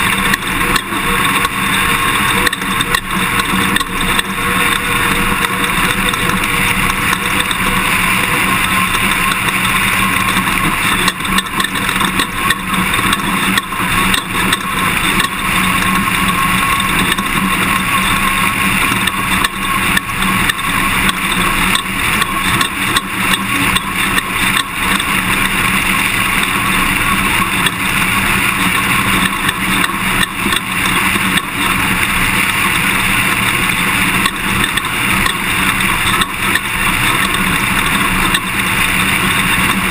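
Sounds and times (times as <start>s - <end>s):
knocks and rattles: 0.0s - 39.9s
pickup truck engine: 0.0s - 39.9s.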